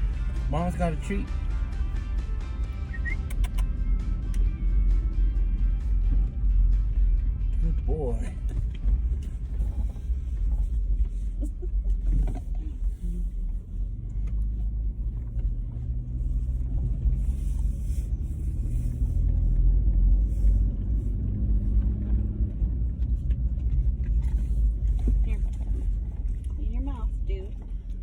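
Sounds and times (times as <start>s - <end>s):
vehicle rumble inside cabin: 0.0s - 28.0s.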